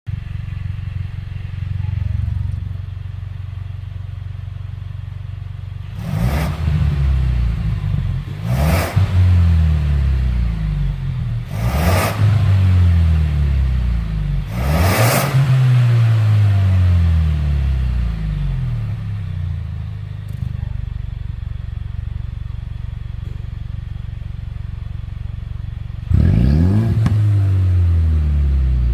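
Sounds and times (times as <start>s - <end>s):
car engine idling and revving: 0.1s - 28.9s.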